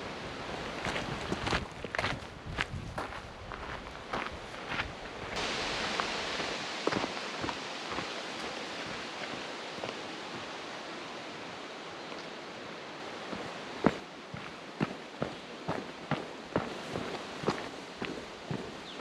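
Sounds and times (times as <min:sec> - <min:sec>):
footsteps on trail: 0:00.8 - 0:10.6, 0:13.0 - 0:19.0
steady rushing hiss: 0:03.0 - 0:19.0.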